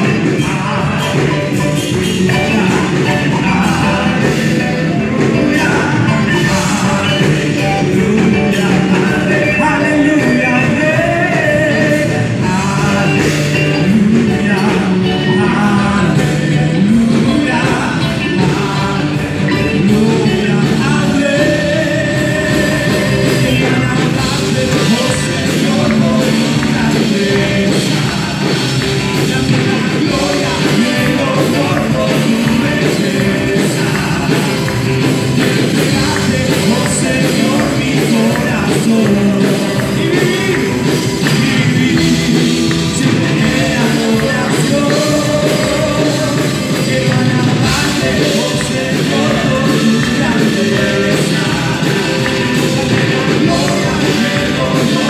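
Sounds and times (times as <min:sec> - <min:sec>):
live band playing: 0:00.0 - 0:55.0
person singing: 0:00.0 - 0:55.0.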